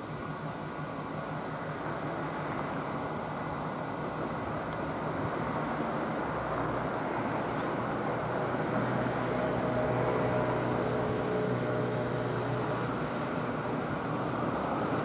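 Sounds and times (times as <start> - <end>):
outdoor rumble with engine hum: 0.0 - 15.0.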